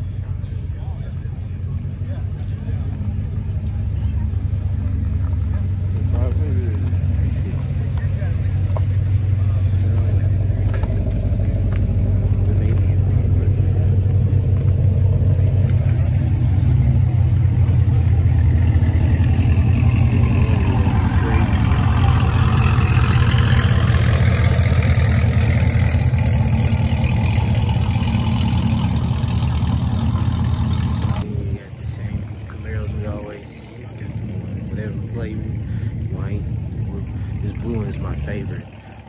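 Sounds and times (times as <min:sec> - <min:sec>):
car exhausts rumbling low: 0:00.0 - 0:39.0.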